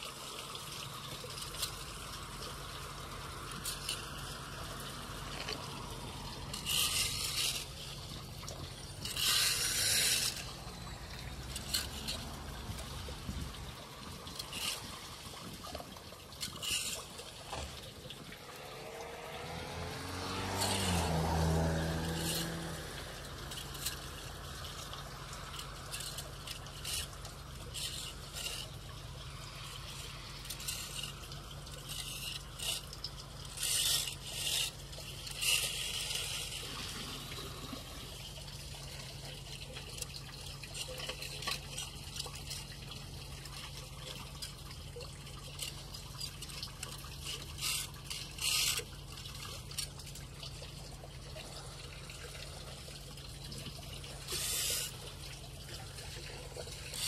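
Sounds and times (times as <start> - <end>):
water pouring into storm drain: 0.0 - 57.0
water splashing: 0.0 - 57.0.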